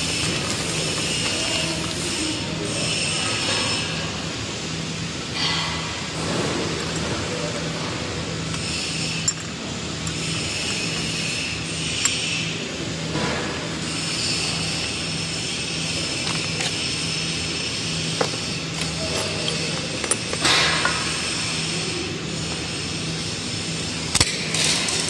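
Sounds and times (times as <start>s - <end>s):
throbbing factory machinery hum: 0.0s - 25.0s.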